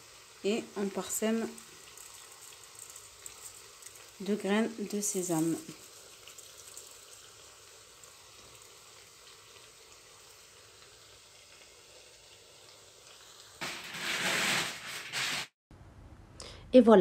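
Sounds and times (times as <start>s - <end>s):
oil sizzling in a pan: 0.0s - 15.6s.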